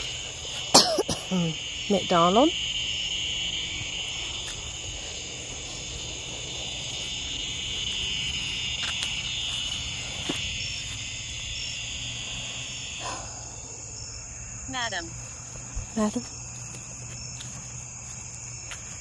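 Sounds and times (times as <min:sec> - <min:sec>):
crickets and insects chirping: 0:00.0 - 0:19.0.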